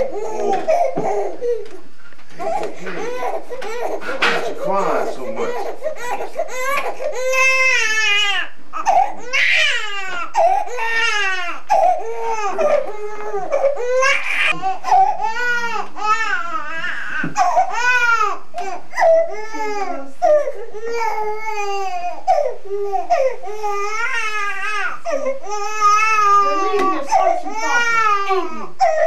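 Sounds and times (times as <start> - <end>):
newborn baby crying: 0.0 - 1.8, 2.4 - 29.0.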